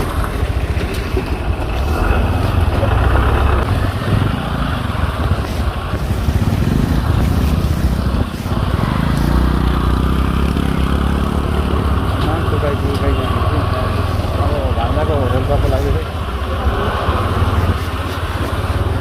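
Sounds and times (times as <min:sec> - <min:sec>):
road and wind noise: 0:00.0 - 0:19.0
vehicle engine running: 0:00.0 - 0:19.0.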